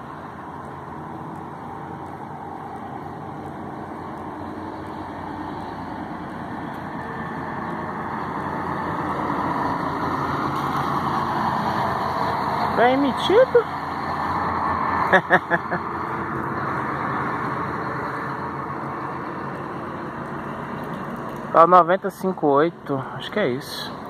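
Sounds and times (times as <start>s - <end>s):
coach diesel engine pulling away: 0.0s - 24.0s.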